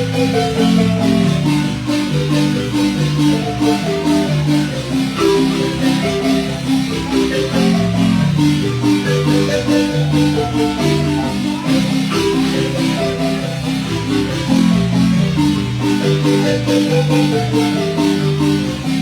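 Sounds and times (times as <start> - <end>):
low musical accompaniment: 0.0 - 19.0
mallet percussion notes: 0.0 - 19.0.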